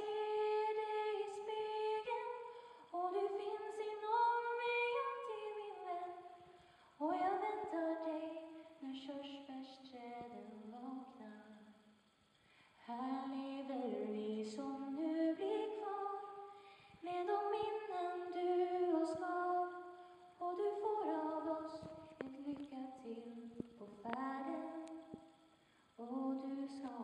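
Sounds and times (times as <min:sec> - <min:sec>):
woman singing unaccompanied: 0:00.0 - 0:11.7, 0:12.8 - 0:25.3, 0:26.0 - 0:27.0.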